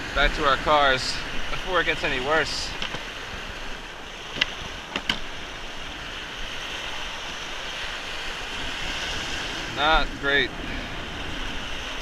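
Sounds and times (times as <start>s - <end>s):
small surf washing: 0.0s - 12.0s
wind buffeting microphone: 0.0s - 12.0s.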